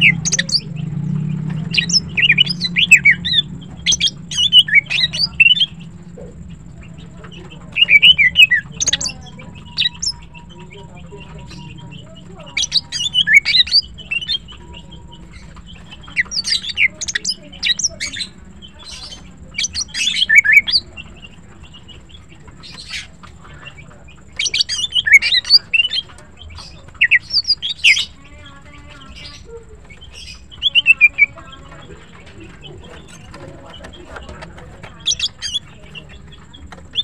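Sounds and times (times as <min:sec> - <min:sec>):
bird singing rapid high chirps: 0:00.0 - 0:37.0.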